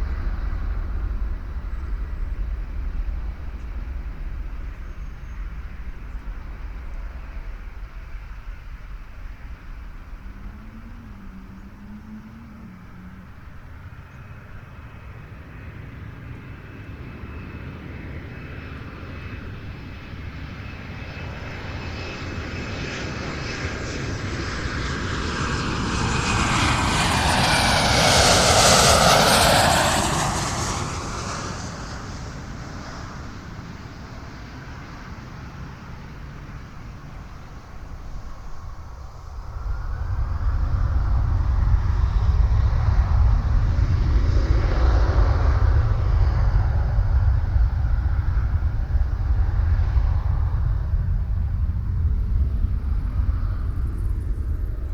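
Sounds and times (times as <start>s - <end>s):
low rumble: 0.0s - 14.6s, 23.8s - 35.2s, 36.6s - 54.9s
airliner passing overhead: 0.0s - 54.9s.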